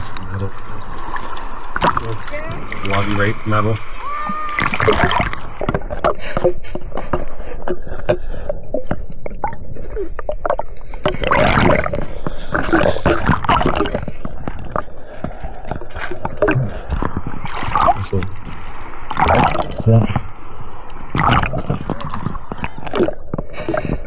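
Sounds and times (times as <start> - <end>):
water sloshing and gurgling: 0.0 - 24.0.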